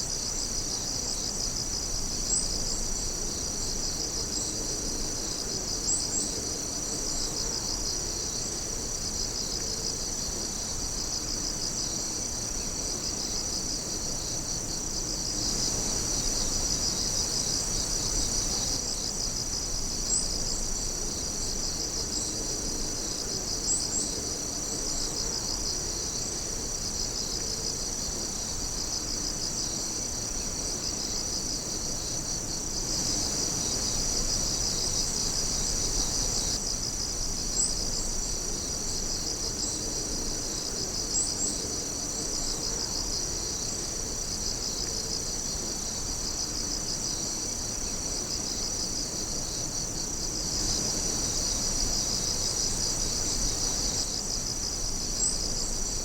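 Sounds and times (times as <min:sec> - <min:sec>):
insects trilling: 0:00.0 - 0:56.0
pulsing insect chirp: 0:00.0 - 0:56.0.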